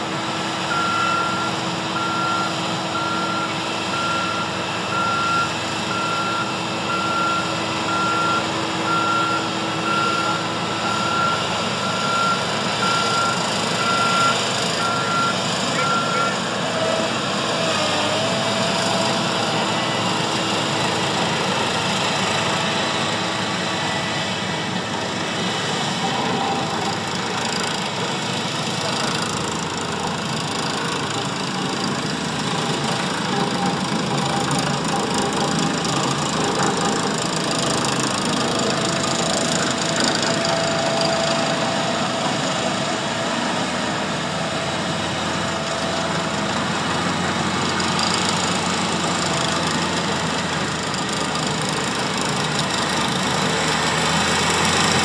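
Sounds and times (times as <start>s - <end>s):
heavy machine diesel engines: 0.0s - 55.0s.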